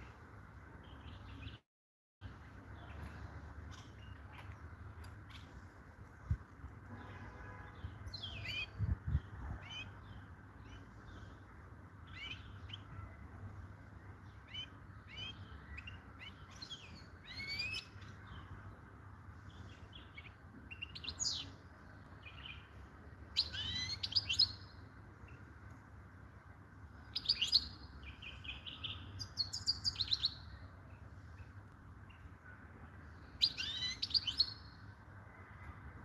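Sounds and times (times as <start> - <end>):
finch twittering song: 0.0 - 1.6, 7.0 - 25.6, 26.9 - 35.8.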